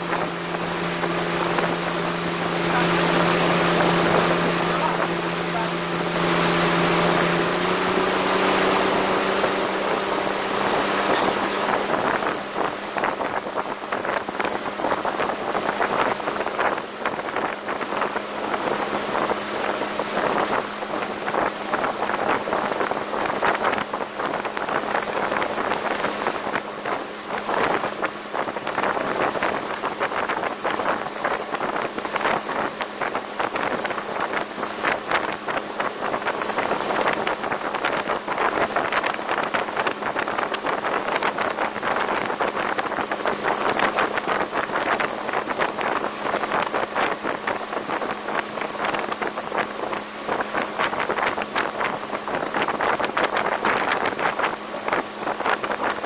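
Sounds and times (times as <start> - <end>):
low engine hum: 0.0 - 56.0
wake churning: 0.0 - 56.0
water rushing along hull: 0.0 - 56.0
wind buffeting microphone: 0.0 - 56.0.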